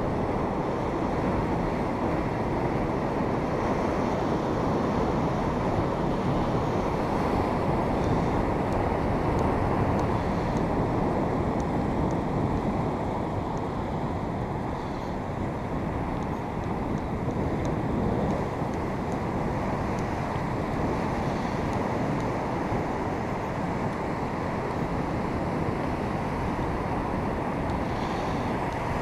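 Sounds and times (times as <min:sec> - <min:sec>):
surf breaking on beach: 0:00.0 - 0:29.0
wind buffeting microphone: 0:00.0 - 0:29.0.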